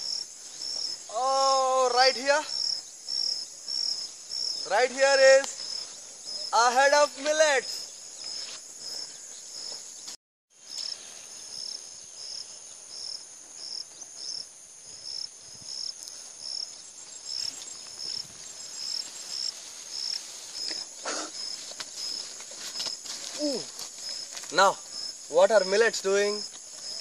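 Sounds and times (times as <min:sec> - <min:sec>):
high insect buzz: 0:00.0 - 0:27.0
insects chirping: 0:00.0 - 0:27.0.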